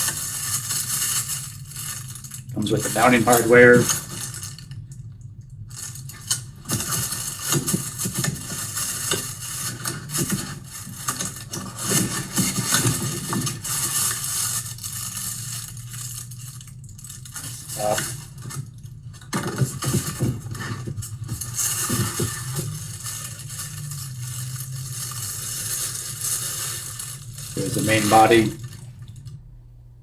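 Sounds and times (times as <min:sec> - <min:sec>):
packaging rustling: 0:00.0 - 0:04.8, 0:05.7 - 0:29.1.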